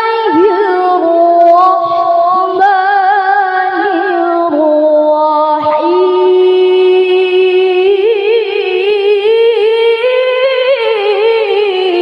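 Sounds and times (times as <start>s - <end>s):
woman reciting in melodic voice: 0.0s - 12.0s.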